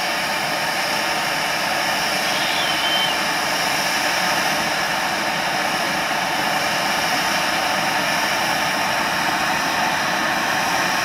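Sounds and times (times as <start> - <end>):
firework fountain hissing: 0.0 - 11.0.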